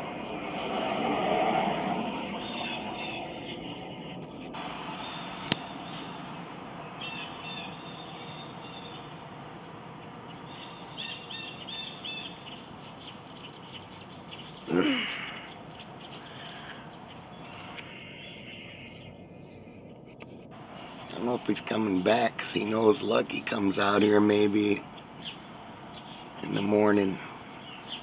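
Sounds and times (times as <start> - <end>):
outdoor background noise: 0.0 - 28.0
birds chirping and singing: 2.2 - 28.0.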